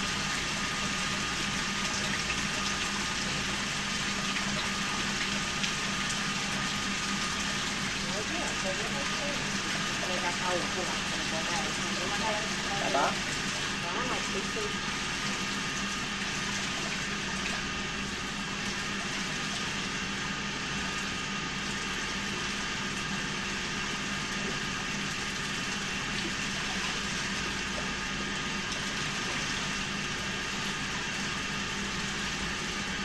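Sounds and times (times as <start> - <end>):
low steady hum: 0.0 - 33.0
water running: 0.0 - 33.0.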